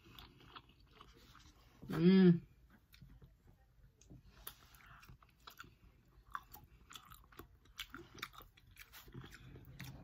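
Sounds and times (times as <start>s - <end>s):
faint chewing: 0.0s - 1.9s, 2.6s - 10.0s.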